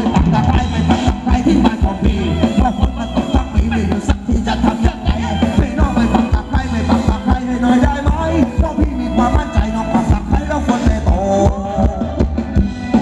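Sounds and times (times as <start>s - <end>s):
heavy bass drum beat: 0.0s - 13.0s
live dance band music: 0.0s - 13.0s.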